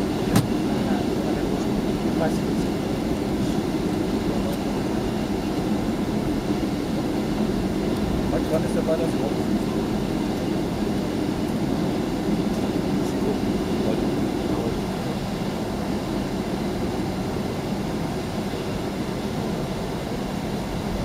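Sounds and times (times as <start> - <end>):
aircraft cabin low rumble: 0.0 - 21.0.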